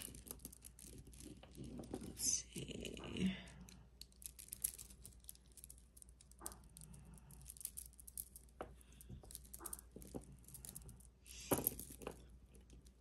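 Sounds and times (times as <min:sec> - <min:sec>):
jewelry clicking and rustling: 0:00.0 - 0:13.0.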